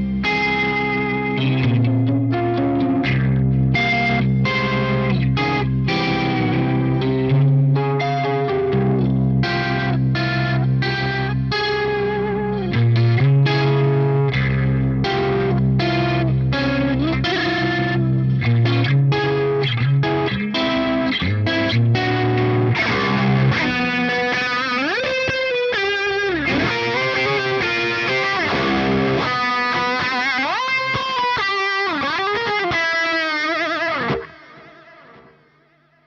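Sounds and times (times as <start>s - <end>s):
distorted electric guitar solo: 0.0s - 36.0s.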